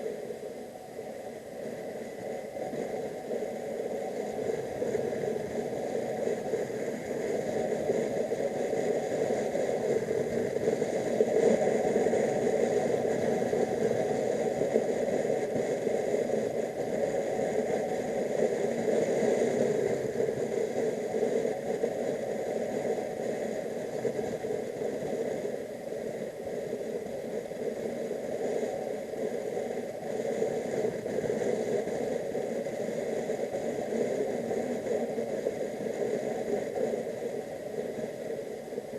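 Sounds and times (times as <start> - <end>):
wind noise: 0.0 - 38.9.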